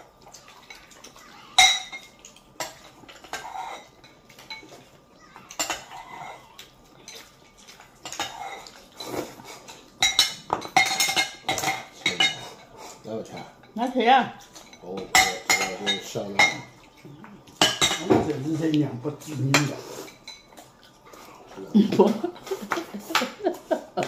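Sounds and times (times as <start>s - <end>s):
utensils clinking on tableware: 0.6s - 13.8s, 14.4s - 20.7s.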